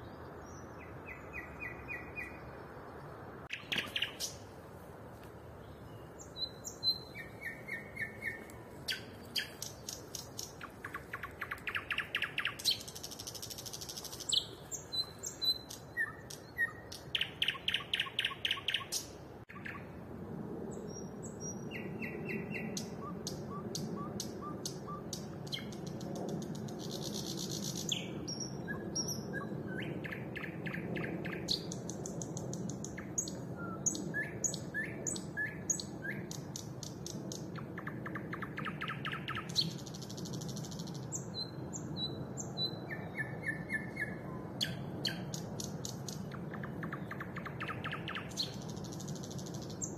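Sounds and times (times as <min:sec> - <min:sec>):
songbird singing: 0:00.0 - 0:20.0, 0:20.7 - 0:49.9.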